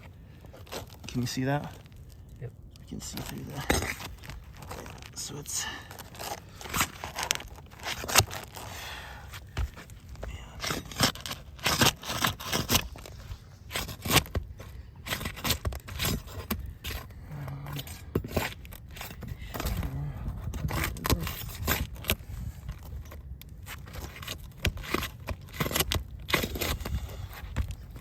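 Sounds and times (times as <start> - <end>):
roof shingles scraping and tearing: 2.9 - 28.0.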